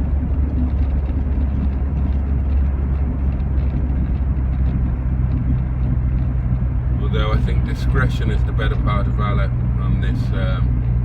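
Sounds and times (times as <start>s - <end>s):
car engine and tyre drone: 0.0s - 11.0s.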